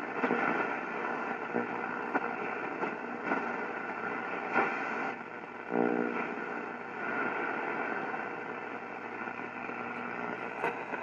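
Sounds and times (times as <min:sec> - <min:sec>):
shortwave radio static: 0:00.0 - 0:11.0.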